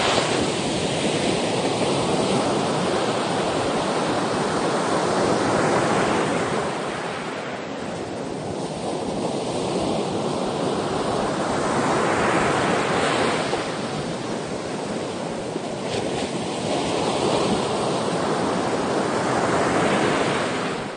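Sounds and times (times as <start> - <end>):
ocean waves washing on shore: 0.0 - 20.9.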